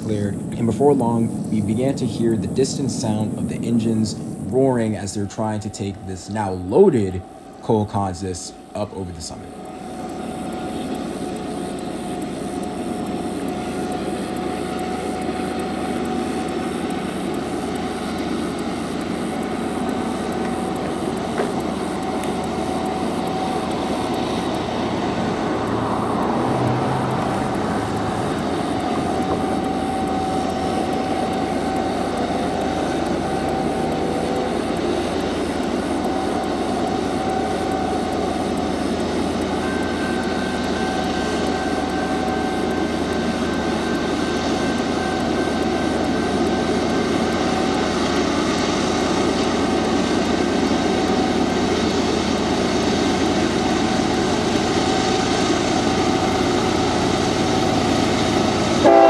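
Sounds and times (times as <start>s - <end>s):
distant diesel locomotives roaring: 0.0s - 59.0s
steady tone: 0.0s - 59.0s.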